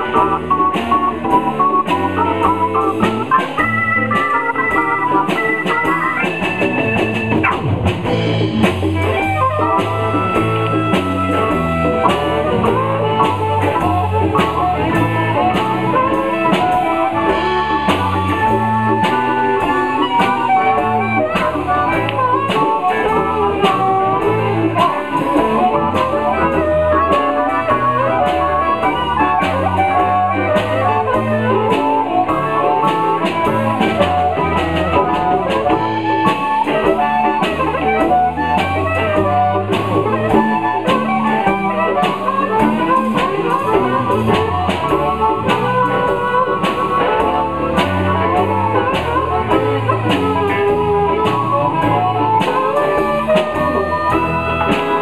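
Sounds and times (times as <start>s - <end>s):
blues band playing: 0.0s - 55.0s
drum kit beat: 0.0s - 55.0s
electric guitar: 0.0s - 55.0s
keyboard: 0.0s - 55.0s
lead instrument long high notes: 0.0s - 55.0s.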